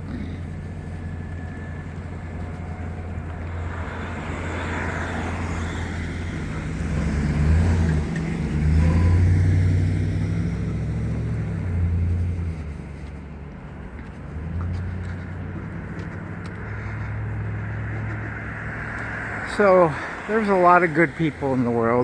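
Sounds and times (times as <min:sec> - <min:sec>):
cars passing on a street: 0:00.0 - 0:22.0.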